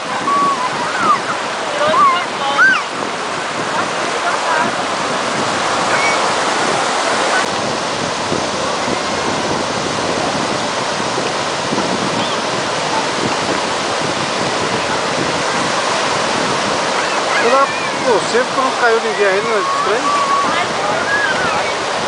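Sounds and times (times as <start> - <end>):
sea waves rushing: 0.0 - 22.0
wind on microphone: 0.0 - 22.0.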